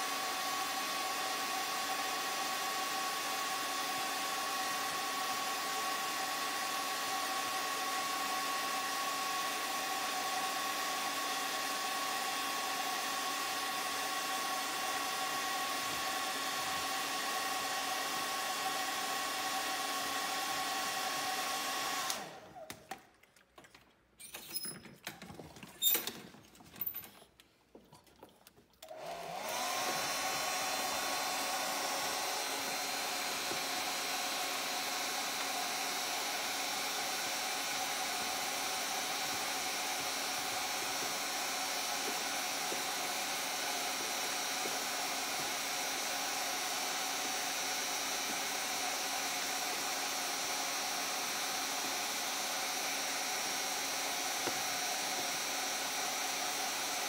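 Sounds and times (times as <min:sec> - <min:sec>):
hair dryer whining: 0:00.0 - 0:23.1, 0:28.8 - 0:57.0.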